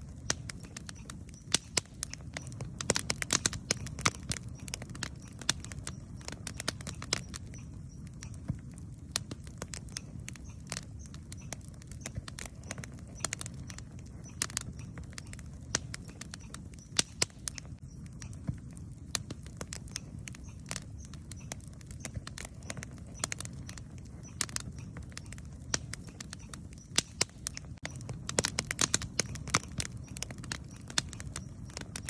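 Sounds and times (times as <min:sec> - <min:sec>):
campfire crackling and popping: 0:00.0 - 0:32.0
low fire rumble: 0:00.0 - 0:32.0.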